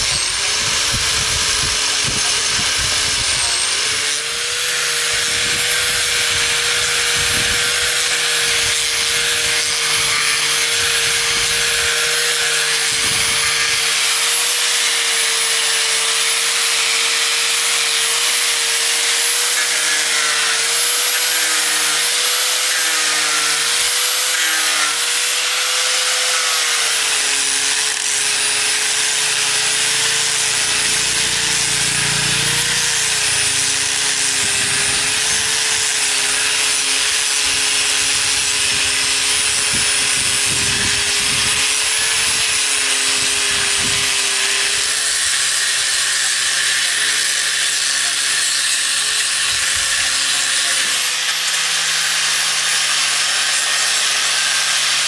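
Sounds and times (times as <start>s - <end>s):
angle grinder motor whine: 0.0s - 55.0s.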